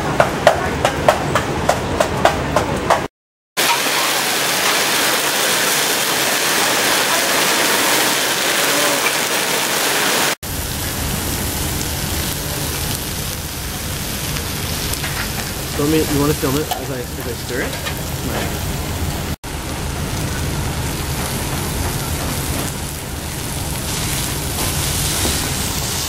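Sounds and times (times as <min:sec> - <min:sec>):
food sizzling on high heat: 0:03.6 - 0:26.0.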